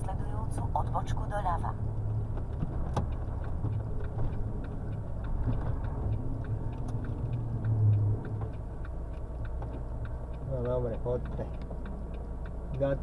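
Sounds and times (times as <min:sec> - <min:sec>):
lorry engine low rumble: 0:00.0 - 0:13.0
turn signal clicking: 0:00.0 - 0:13.0.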